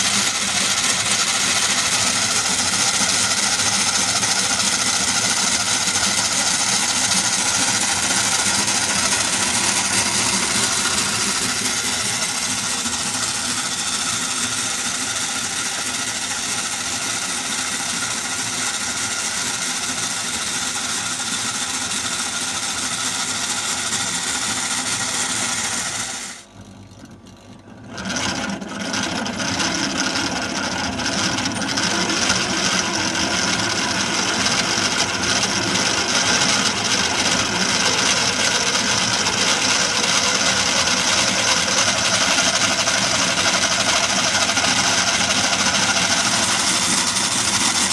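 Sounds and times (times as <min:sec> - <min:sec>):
model engine whirring clatter: 0:00.0 - 0:47.9.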